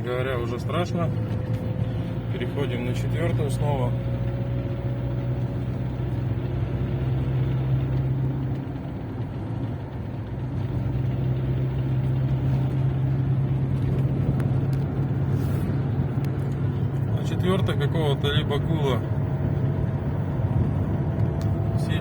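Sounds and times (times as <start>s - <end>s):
car engine hum inside cabin: 0.0s - 22.0s
road noise: 0.0s - 22.0s.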